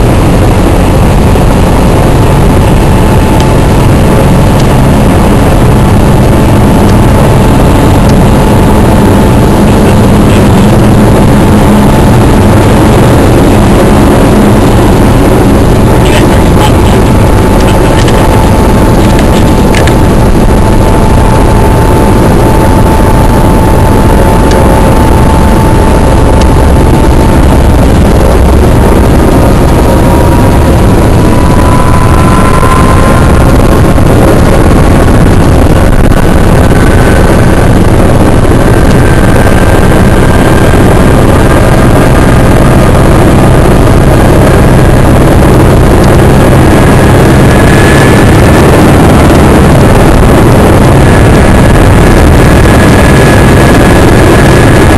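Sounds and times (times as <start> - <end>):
helicopter engine and rotor: 0.0 - 54.9
rising turbine whine: 0.0 - 54.9.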